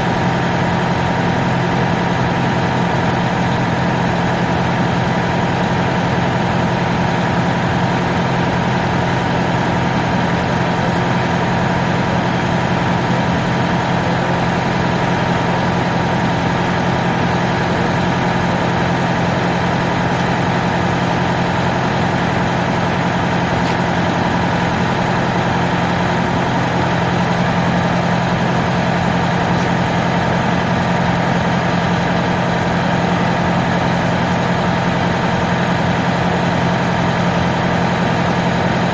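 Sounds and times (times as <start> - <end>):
engine idling drone: 0.0 - 38.9.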